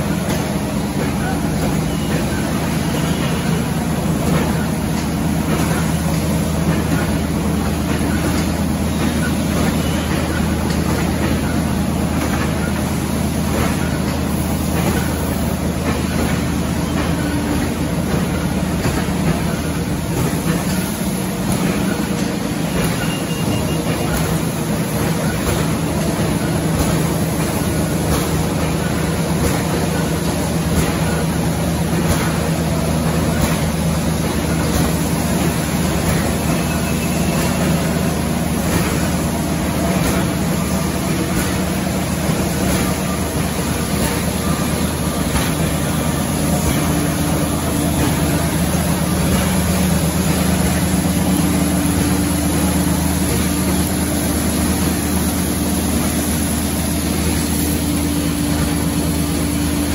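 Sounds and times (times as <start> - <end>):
factory machinery droning: 0.0 - 59.9.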